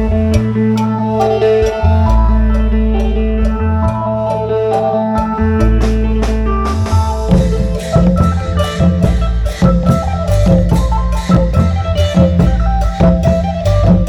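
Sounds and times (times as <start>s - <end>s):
drums beating a steady rhythm: 0.0s - 14.0s
folk melody over deep bass: 0.0s - 14.0s.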